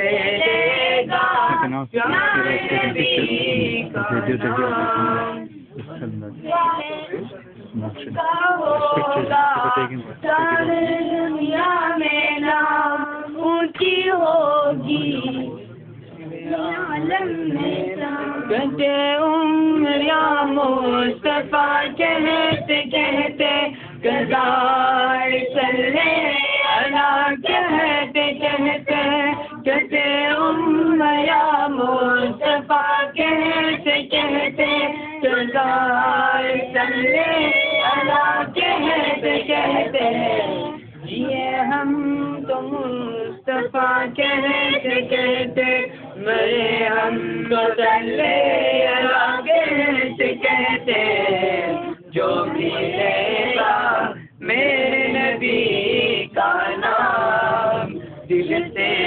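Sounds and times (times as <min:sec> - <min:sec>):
voices singing devotional chant: 0:00.0 - 0:59.0.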